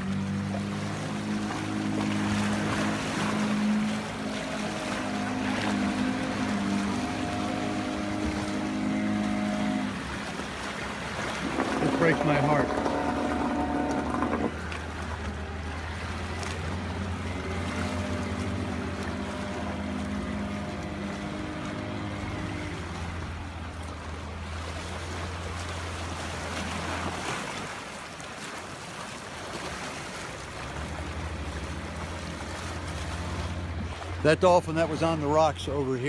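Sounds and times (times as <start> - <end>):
light wind: 0.0 - 36.0
outboard motors droning: 0.0 - 36.0
water noise: 0.0 - 36.0.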